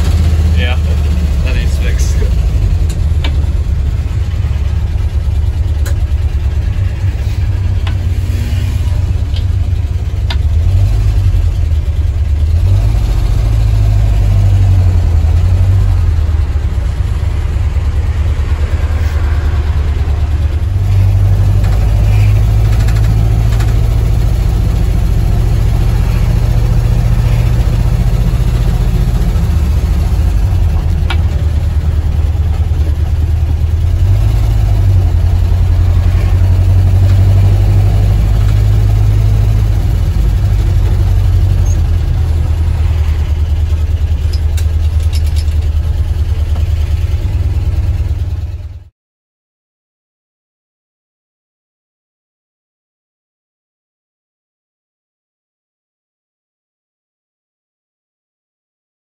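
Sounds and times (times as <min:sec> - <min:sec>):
truck engine from inside cab: 0:00.0 - 0:48.9.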